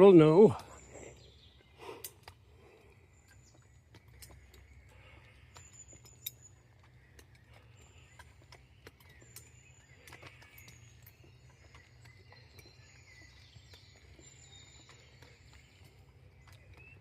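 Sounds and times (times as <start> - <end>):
birdsong: 0.0 - 17.0.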